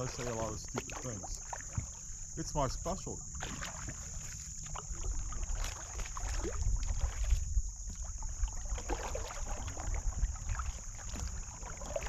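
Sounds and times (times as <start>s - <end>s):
paddles splashing water: 0.0s - 12.0s.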